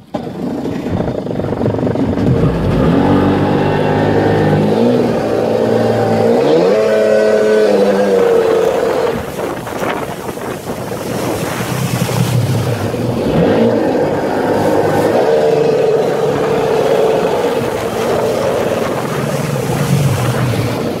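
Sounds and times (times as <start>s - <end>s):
watercraft engine misfiring: 0.1s - 21.0s.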